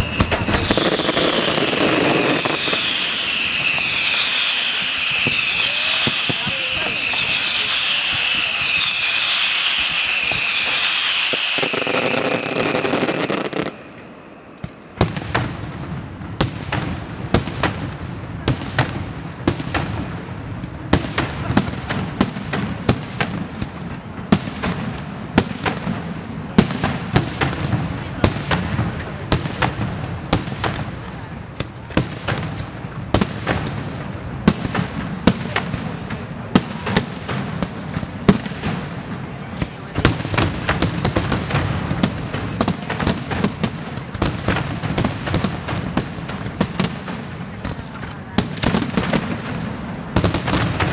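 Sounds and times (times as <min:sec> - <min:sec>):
firework bangs echoing: 0:00.0 - 0:50.9.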